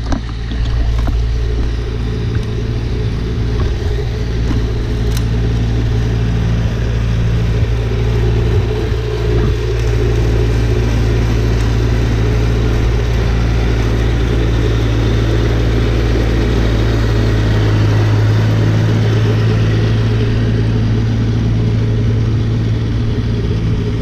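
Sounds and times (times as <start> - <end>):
snowblower engine running: 0.0 - 24.0.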